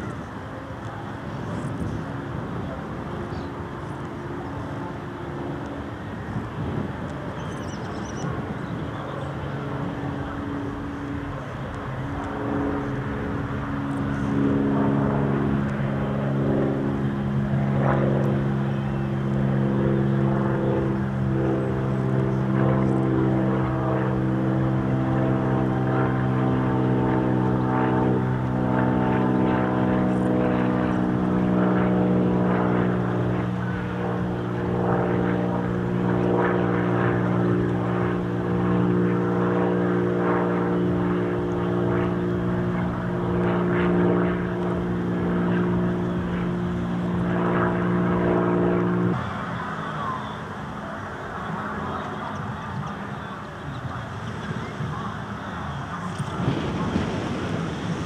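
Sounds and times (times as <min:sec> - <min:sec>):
propeller aircraft droning overhead: 0:00.0 - 0:58.0.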